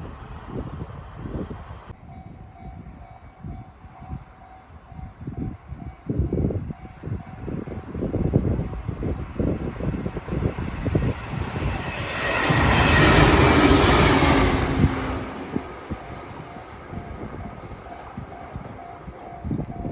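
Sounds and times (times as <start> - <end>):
train passing at speed: 0.0 - 19.9
wind buffeting microphone: 0.0 - 19.9.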